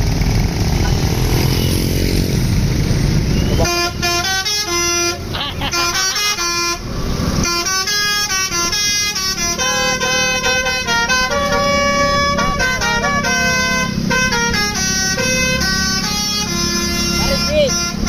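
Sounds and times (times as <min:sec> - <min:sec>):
low engine rumble: 0:00.0 - 0:18.0
musical horn playing tune: 0:03.4 - 0:18.0.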